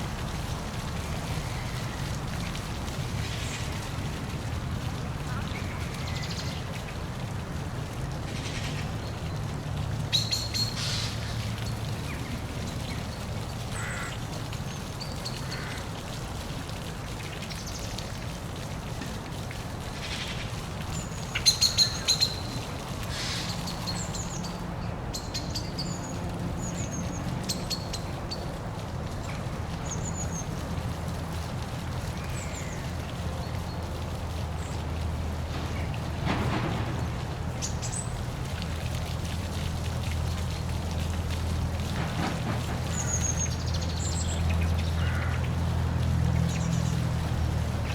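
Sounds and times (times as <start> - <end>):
water rushing: 0.0 - 47.9.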